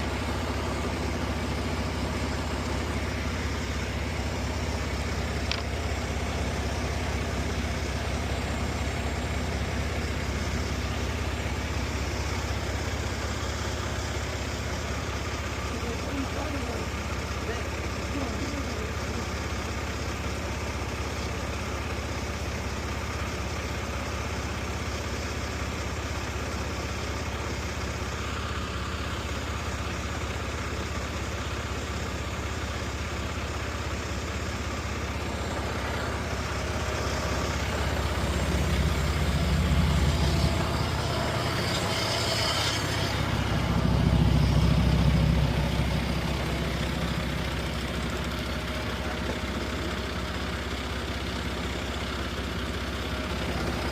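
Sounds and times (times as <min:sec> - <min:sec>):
diesel engine idling and revving: 0:00.0 - 0:53.9.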